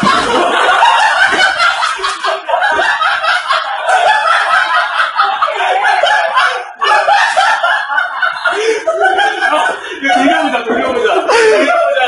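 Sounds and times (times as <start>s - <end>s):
group of people laughing: 0.0s - 12.0s.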